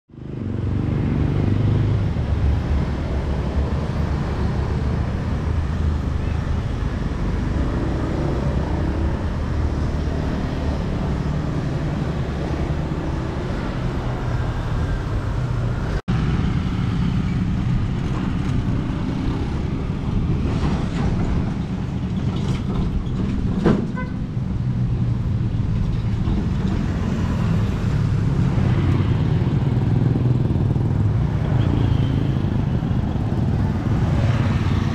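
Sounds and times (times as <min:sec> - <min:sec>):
motorcycles passing by: 0:00.1 - 0:21.8, 0:24.6 - 0:34.9.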